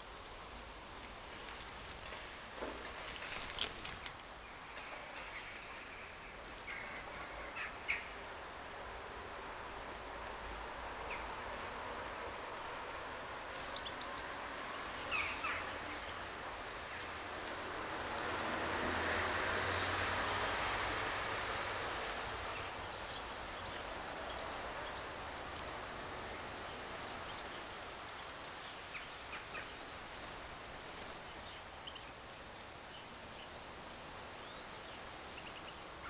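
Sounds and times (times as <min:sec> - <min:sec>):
steady rain: 0:00.2 - 0:36.0
birds chipping and calling: 0:03.0 - 0:36.0.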